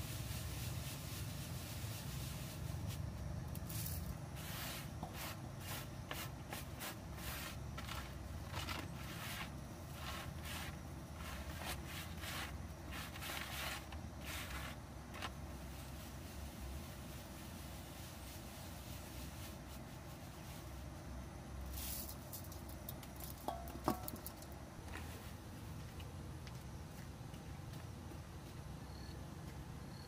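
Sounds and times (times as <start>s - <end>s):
grain rustling in bamboo sieve: 0.0s - 25.5s.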